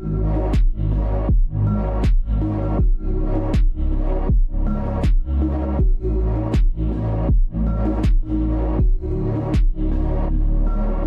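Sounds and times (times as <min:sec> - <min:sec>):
electronic music with bass beat: 0:00.0 - 0:11.0.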